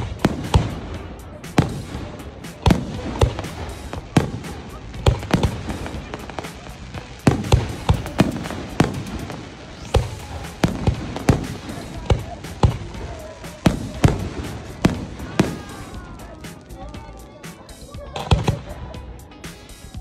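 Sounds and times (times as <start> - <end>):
fireworks shells bursting: 0.0 - 16.9.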